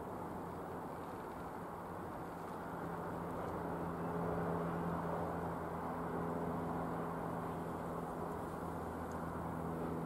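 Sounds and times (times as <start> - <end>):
light aircraft engine flying over: 0.0 - 10.0.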